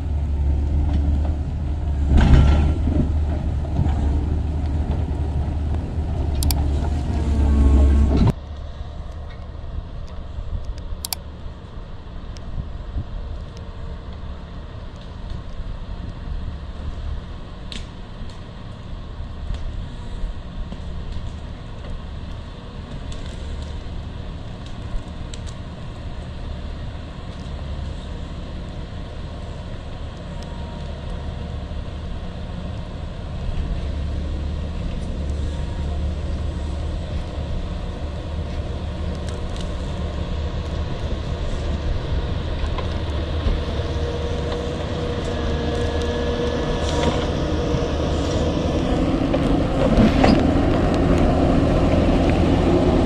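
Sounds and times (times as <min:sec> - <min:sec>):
diesel engine running: 0:00.0 - 0:09.0, 0:18.4 - 0:53.0.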